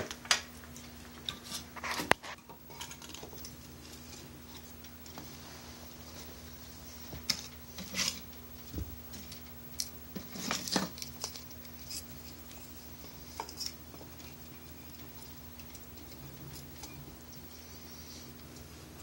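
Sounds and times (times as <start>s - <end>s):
faint low hum: 0.0s - 19.0s
wood fire crackling: 0.0s - 19.0s.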